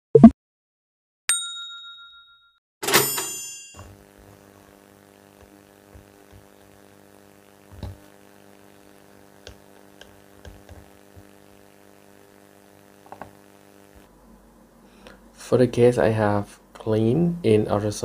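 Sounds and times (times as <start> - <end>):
electrical mains hum: 2.9 - 18.0.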